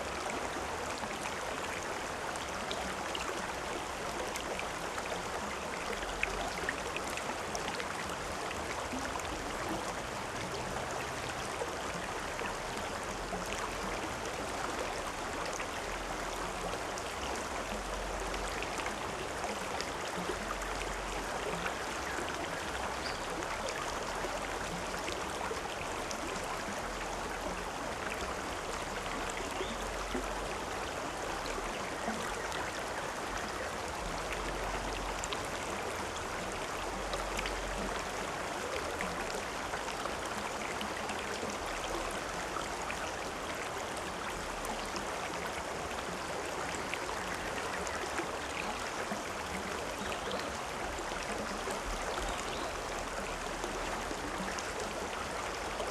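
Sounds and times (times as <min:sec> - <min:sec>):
stream water flowing over rocks: 0:00.0 - 0:55.9.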